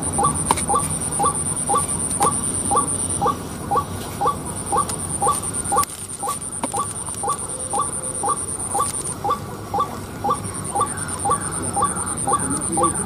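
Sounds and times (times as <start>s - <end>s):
bird hoarse calls: 0.0s - 13.0s.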